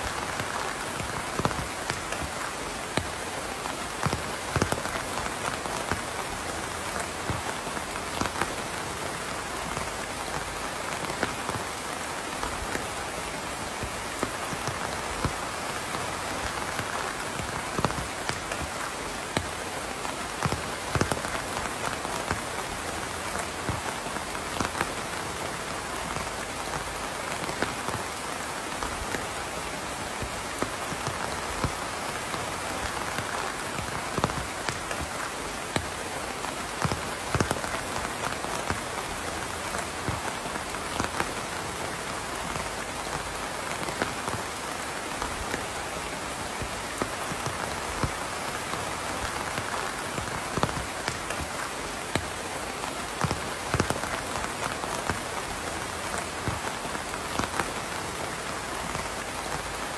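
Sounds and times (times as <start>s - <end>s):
raindrops hitting close by: 0.0s - 59.9s
steady rain hissing: 0.0s - 59.9s.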